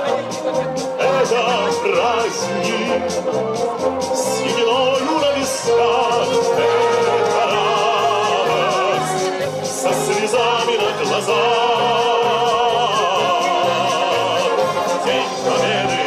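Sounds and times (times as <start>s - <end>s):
operatic singing: 0.0s - 16.0s
orchestral accompaniment: 0.0s - 16.0s.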